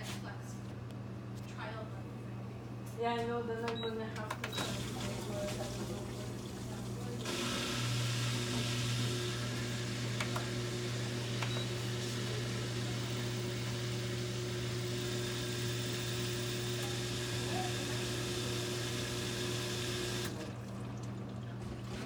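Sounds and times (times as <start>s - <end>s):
washer electric hum: 0.0s - 22.0s.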